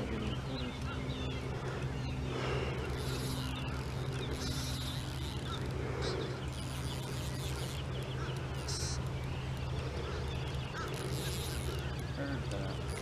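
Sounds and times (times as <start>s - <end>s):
birds chirping: 0.0s - 13.0s
boat motor idling: 0.0s - 13.0s.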